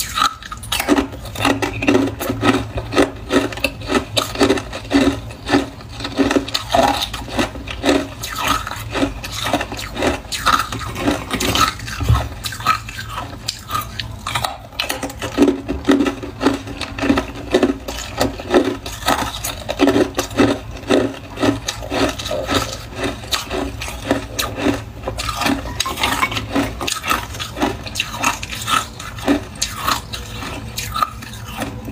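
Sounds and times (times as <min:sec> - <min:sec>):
ice being bitten and chewed: 0:00.0 - 0:31.9.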